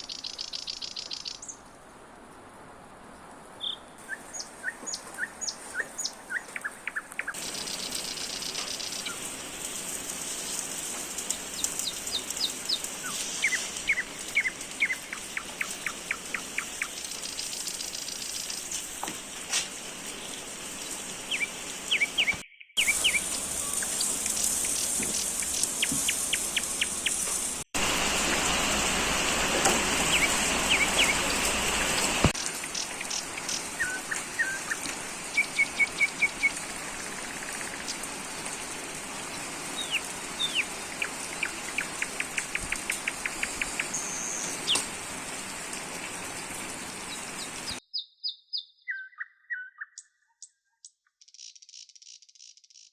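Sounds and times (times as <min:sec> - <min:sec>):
small birds chirping: 0:00.0 - 0:01.7, 0:03.6 - 0:28.5, 0:29.7 - 0:45.0, 0:46.0 - 0:52.9
steady outdoor hiss: 0:00.0 - 0:47.8.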